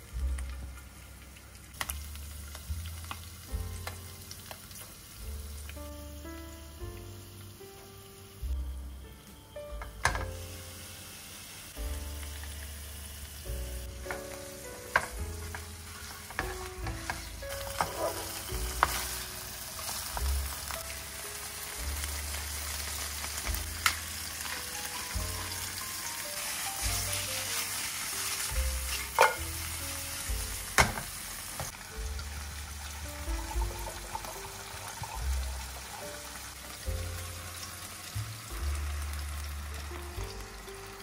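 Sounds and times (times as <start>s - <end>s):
fish frying in oil: 0.0s - 8.6s, 10.0s - 41.0s.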